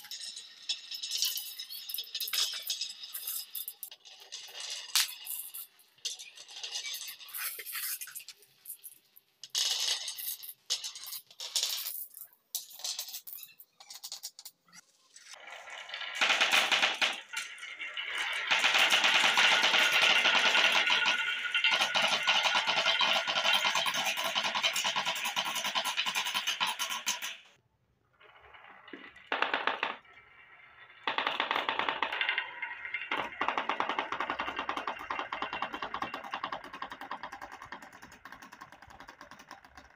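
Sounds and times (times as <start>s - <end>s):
marbles clattering on wooden run: 0.0s - 8.8s, 15.6s - 27.4s, 28.3s - 39.9s.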